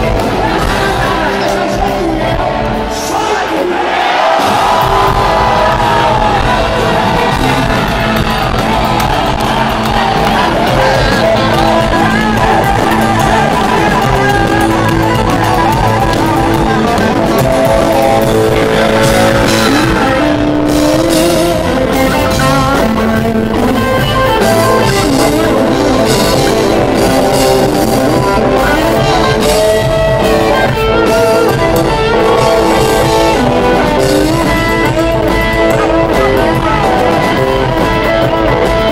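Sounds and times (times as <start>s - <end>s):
bass guitar: 0.0s - 3.2s, 4.4s - 38.9s
electric guitars: 0.0s - 38.9s
live rock band playing: 0.0s - 38.9s.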